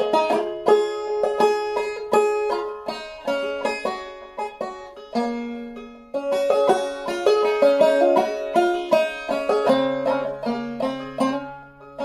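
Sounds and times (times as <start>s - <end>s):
banjo plucked notes: 0.0s - 12.0s.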